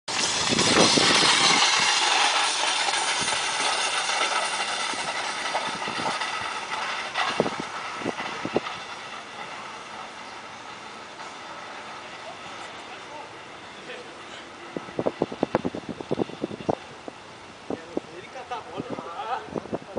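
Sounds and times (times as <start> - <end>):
sled scraping over dirt: 0.1 - 17.2.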